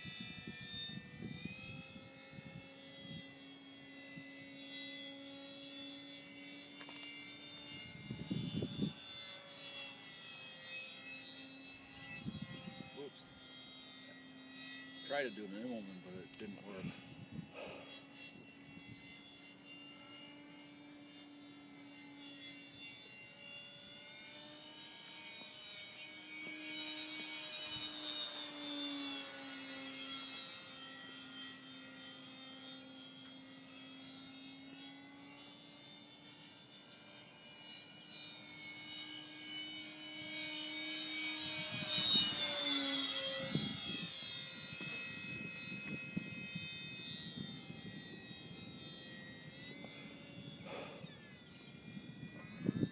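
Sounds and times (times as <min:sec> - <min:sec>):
model plane propeller whining: 0:00.0 - 0:52.9.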